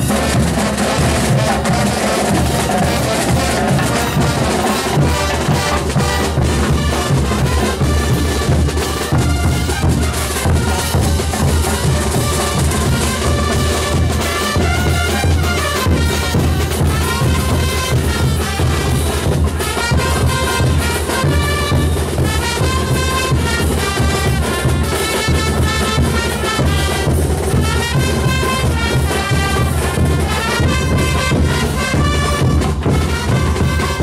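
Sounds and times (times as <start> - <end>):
brass band playing: 0.0 - 34.0.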